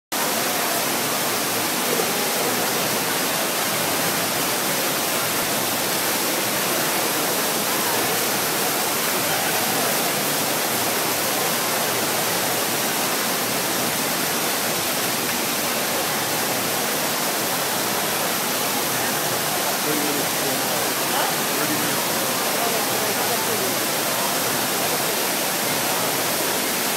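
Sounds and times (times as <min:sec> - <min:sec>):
waterfall rushing: 0:00.2 - 0:26.9.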